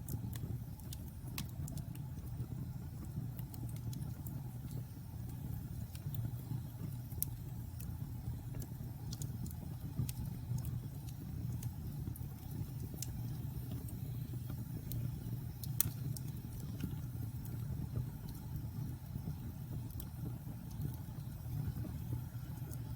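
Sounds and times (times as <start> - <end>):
flames rumbling: 0.0 - 22.9
wood fire crackling: 0.0 - 22.9.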